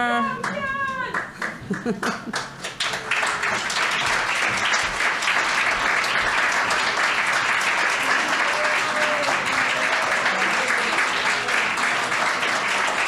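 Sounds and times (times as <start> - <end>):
audience applause: 0.4 - 13.0.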